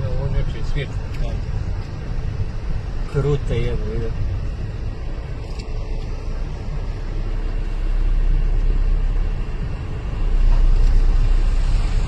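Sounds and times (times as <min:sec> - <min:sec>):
car rumbling: 0:00.0 - 0:12.0
noisy wash: 0:00.0 - 0:12.0.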